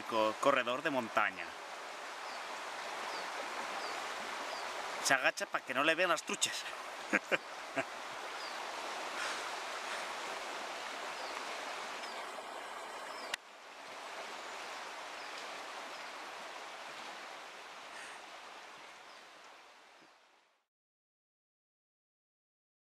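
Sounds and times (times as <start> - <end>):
river water rushing: 0.0 - 20.5.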